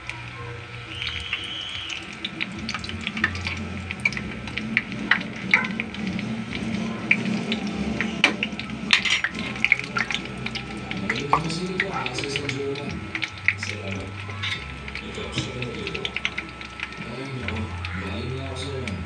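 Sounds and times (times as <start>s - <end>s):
leaves deep-frying in oil: 0.0s - 19.0s.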